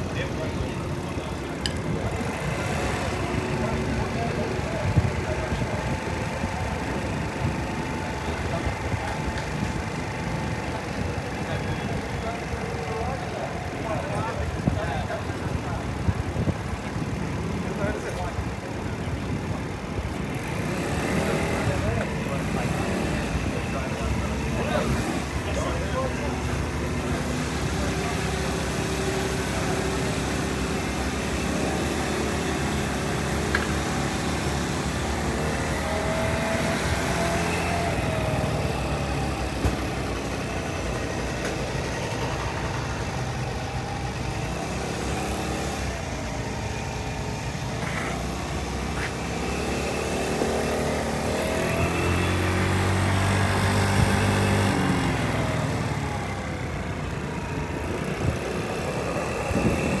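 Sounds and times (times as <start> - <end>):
vehicle engine idling: 0.0 - 60.0.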